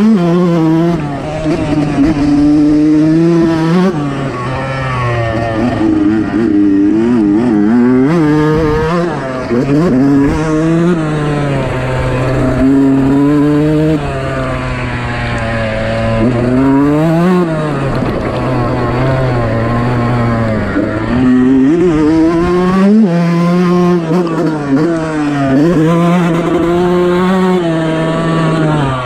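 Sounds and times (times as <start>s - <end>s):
two-stroke motocross engine revving: 0.0s - 29.0s.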